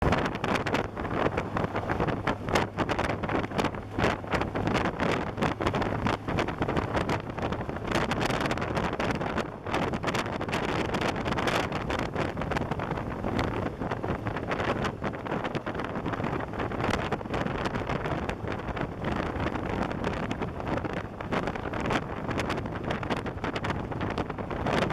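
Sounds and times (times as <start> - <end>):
motorcycle engine and road rumble: 0.0 - 24.9
wind buffeting microphone: 0.0 - 24.9.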